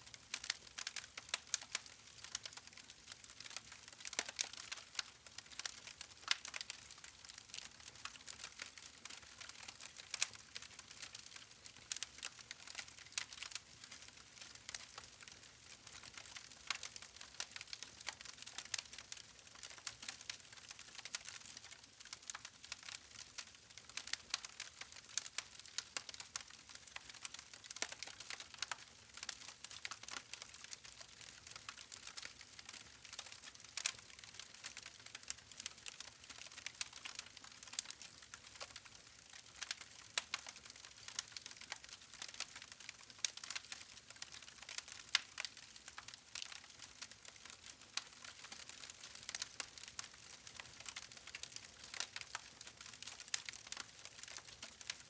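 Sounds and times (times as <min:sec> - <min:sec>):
campfire crackling and popping: 0:00.1 - 0:55.0.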